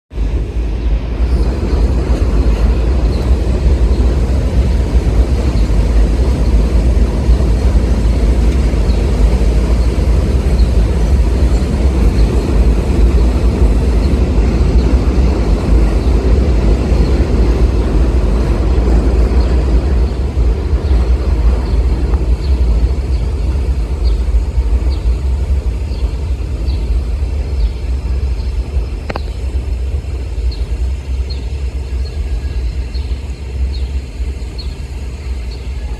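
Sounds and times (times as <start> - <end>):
subway train wheels rumbling on rails: 0.1 - 35.9.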